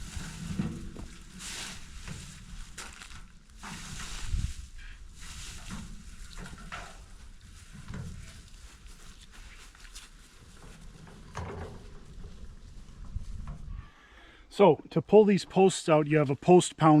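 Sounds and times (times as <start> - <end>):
rustling of plants being handled: 0.0 - 13.8.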